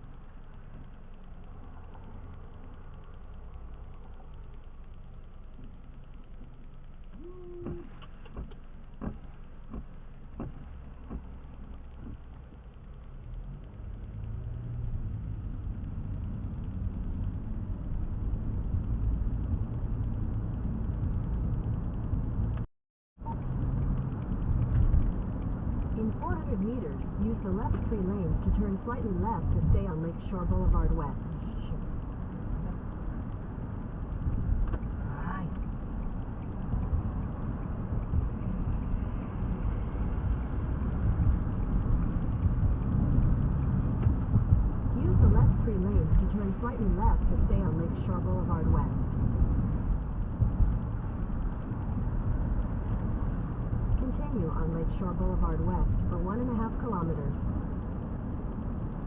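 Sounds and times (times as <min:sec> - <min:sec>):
car road noise rumble: 0:00.0 - 0:59.0
faint engine hum: 0:00.0 - 0:59.0.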